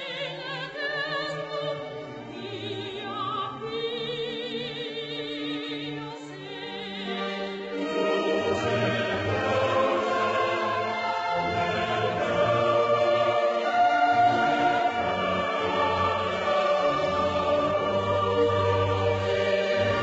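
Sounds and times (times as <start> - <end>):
choral music with orchestra: 0.0 - 20.0.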